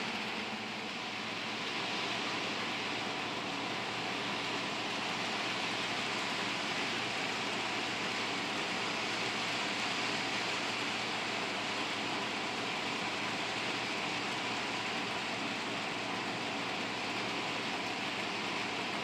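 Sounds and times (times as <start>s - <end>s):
faint motor whine: 0.0s - 19.0s.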